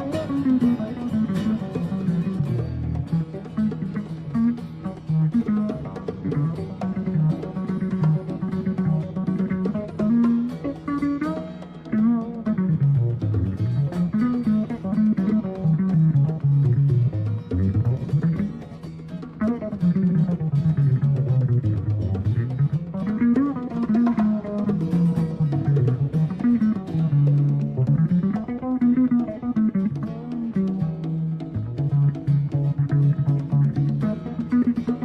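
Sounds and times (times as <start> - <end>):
drums and percussion: 0.0 - 35.0
guitar: 0.0 - 35.0.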